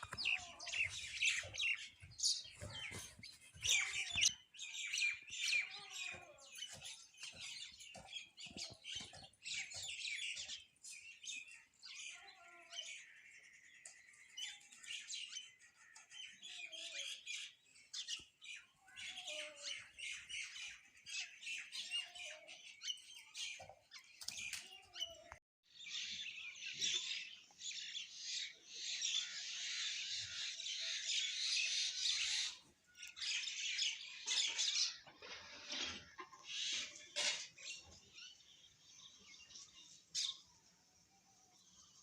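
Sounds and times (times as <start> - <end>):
small birds chirping and squawking: 0.0 - 42.0.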